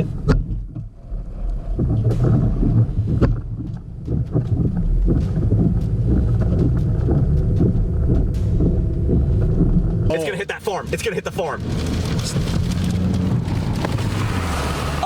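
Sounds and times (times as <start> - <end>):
knocks and clicks: 0.0 - 14.0
vehicle rumble: 0.0 - 15.0.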